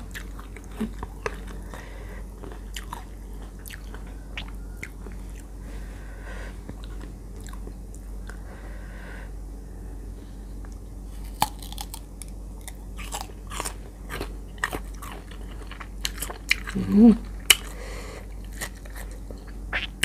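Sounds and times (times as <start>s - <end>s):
chewing and crunching mango: 0.0s - 5.6s, 6.6s - 8.5s, 11.1s - 20.0s.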